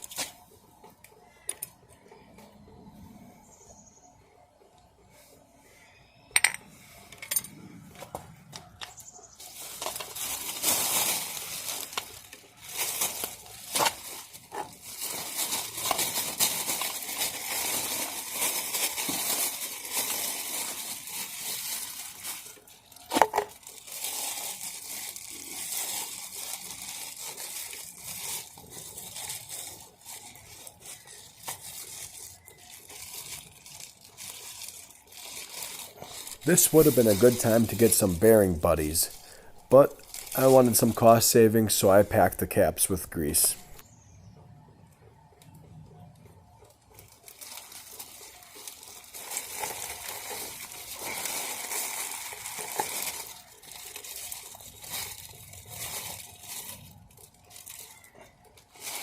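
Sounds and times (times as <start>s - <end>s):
rustling crinkling handling noise: 0.0s - 2.6s, 8.0s - 44.0s, 45.9s - 59.0s.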